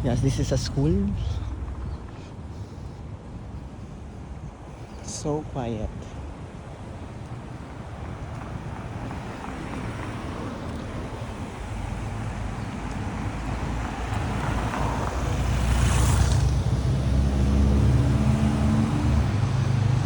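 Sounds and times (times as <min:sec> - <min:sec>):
motor vehicle approaching: 0:00.0 - 0:04.7, 0:06.6 - 0:20.0
low engine hum: 0:00.0 - 0:20.0.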